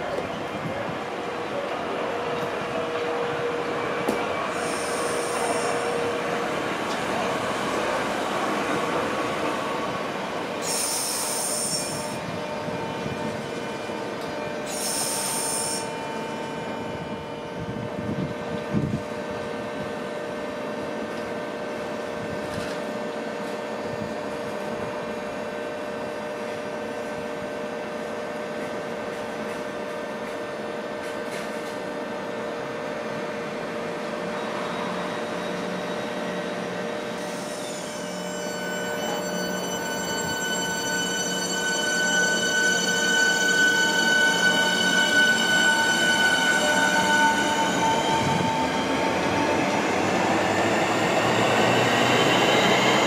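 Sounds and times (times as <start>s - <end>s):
train rail noise: 0.0s - 53.0s.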